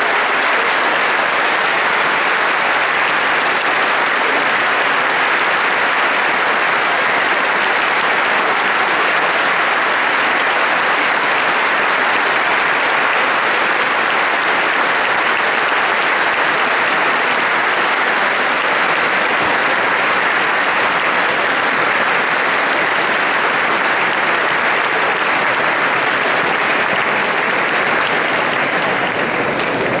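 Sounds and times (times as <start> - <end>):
audience applauding: 0.0 - 30.0.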